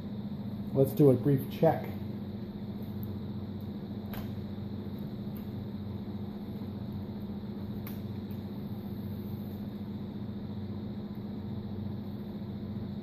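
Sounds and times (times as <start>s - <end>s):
heat gun fan humming: 0.0s - 13.0s.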